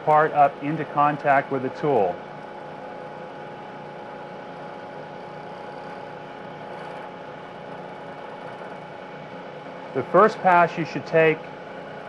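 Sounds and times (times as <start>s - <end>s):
milling machine hum and whine: 0.0s - 12.0s.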